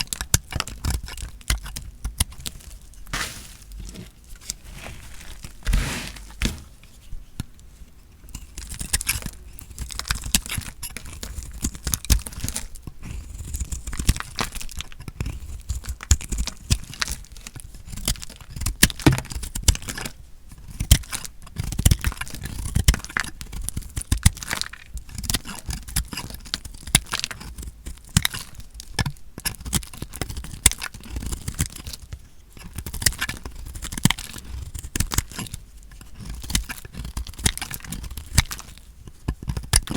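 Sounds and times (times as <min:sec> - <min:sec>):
knife crunching through dry soap: 0:00.0 - 0:07.0, 0:08.3 - 0:39.9
knife scraping soap: 0:00.0 - 0:39.9.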